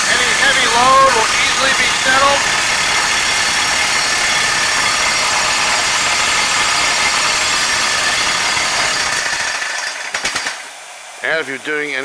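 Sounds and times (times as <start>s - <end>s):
electric vibrators shaking table: 0.0s - 10.6s.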